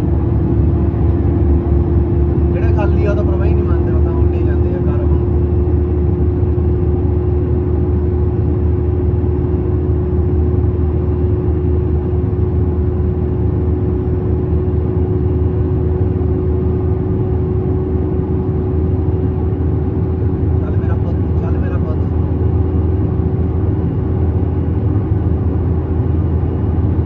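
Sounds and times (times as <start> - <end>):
diesel truck engine droning: 0.0 - 27.0.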